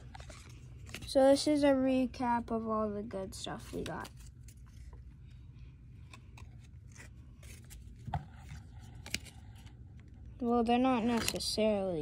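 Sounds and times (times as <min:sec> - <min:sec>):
cards rustling and clicking: 0:00.0 - 0:01.6, 0:03.4 - 0:11.8.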